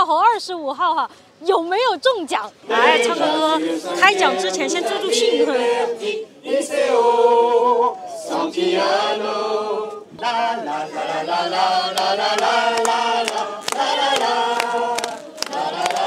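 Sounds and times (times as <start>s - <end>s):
group of people singing: 2.6s - 16.0s.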